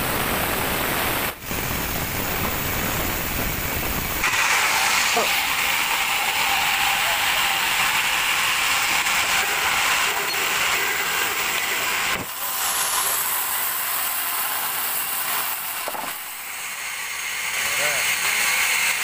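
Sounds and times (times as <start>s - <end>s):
band saw cutting log: 0.0s - 19.0s.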